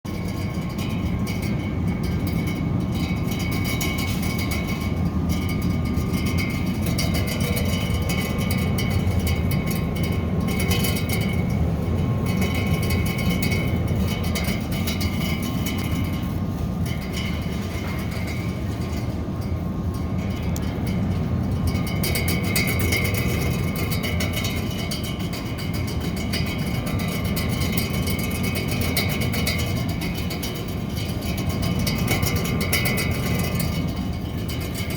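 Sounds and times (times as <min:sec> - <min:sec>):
refrigerator humming and rattling: 0:00.1 - 0:34.9
thin steady whine: 0:00.1 - 0:34.9.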